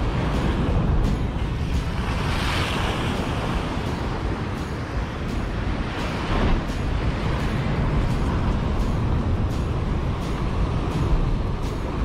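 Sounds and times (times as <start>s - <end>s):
waves breaking on rocks: 0.0s - 11.2s
wind buffeting microphone: 0.0s - 12.0s.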